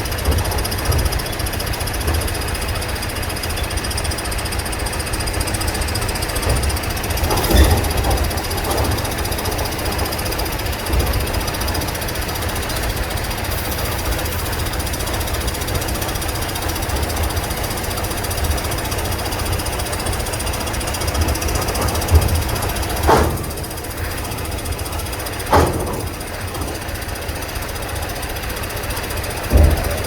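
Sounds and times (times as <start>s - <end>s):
heavy engine rumbling: 0.0s - 30.0s
rapid mechanical clatter: 0.0s - 30.0s.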